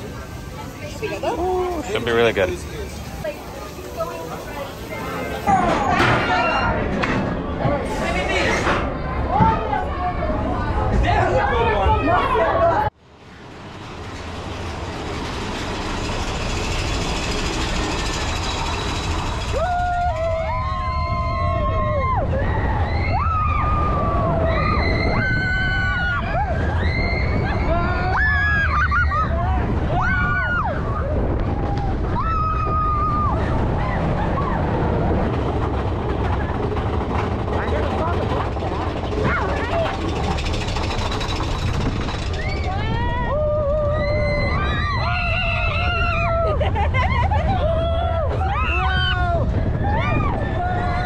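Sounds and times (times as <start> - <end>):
roller coaster rumbling clatter: 0.0 - 51.0
rushing wind: 0.0 - 51.0.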